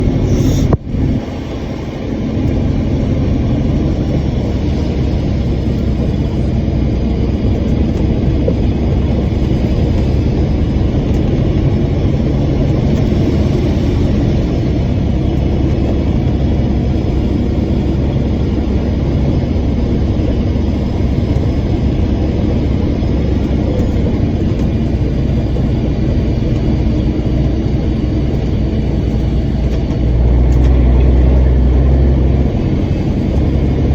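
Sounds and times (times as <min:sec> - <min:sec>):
diesel truck engine rumbling: 0:00.0 - 0:33.9.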